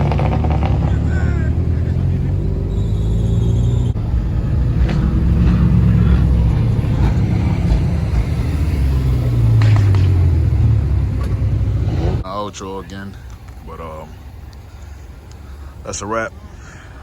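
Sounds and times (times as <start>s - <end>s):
car engine with exhaust rumble: 0.0s - 17.0s.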